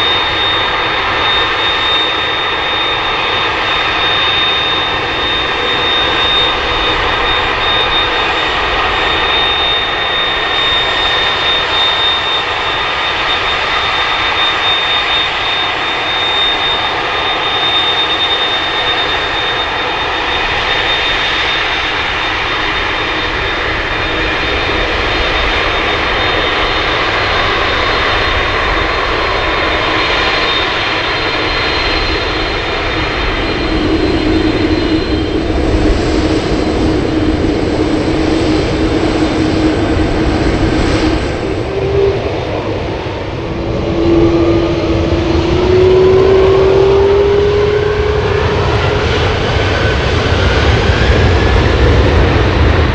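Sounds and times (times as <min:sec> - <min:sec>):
high engine whine: 0:00.0 - 0:52.9
jet engines running: 0:00.0 - 0:52.9.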